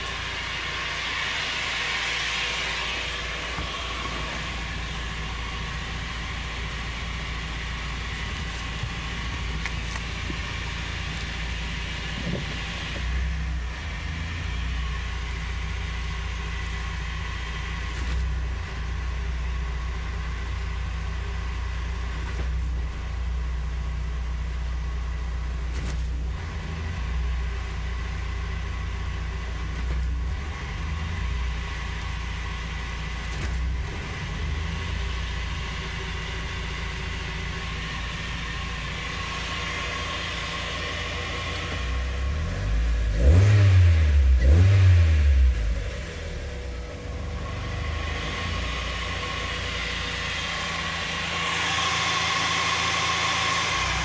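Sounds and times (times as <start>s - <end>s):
car drivetrain drone and whine: 0.0s - 54.0s.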